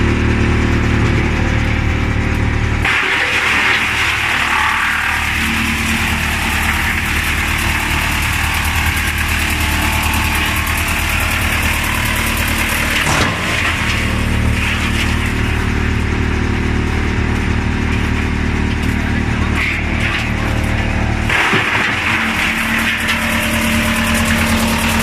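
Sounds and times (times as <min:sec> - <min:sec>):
wood chipper hum: 0:00.0 - 0:25.0.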